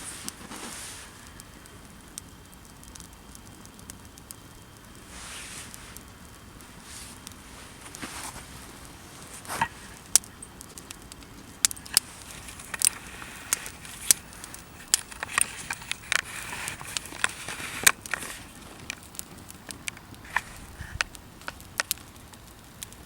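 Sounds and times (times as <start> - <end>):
campfire crackling and popping: 0.0 - 23.0
soft fire hiss: 0.0 - 23.0.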